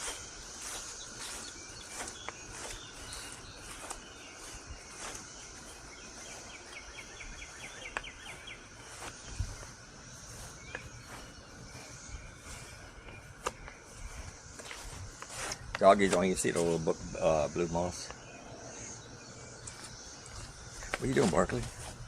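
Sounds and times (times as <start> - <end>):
bird chirping: 0.0 - 22.0
cicadas buzzing: 0.0 - 22.0.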